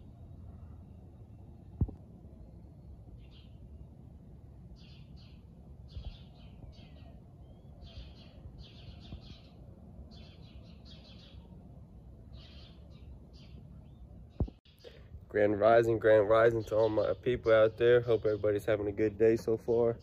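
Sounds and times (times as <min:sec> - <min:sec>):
low outdoor rumble: 0:00.0 - 0:20.0
small birds chirping: 0:02.9 - 0:20.0.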